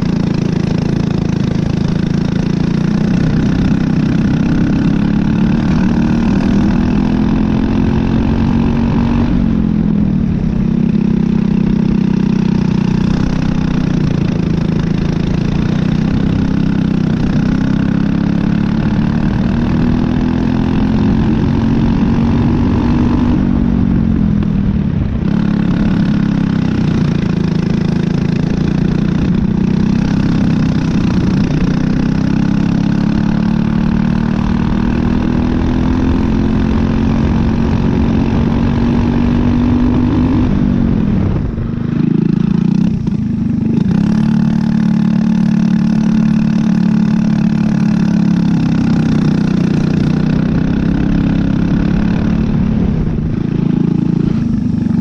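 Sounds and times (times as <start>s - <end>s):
kart engine at speed: 0.0s - 55.0s.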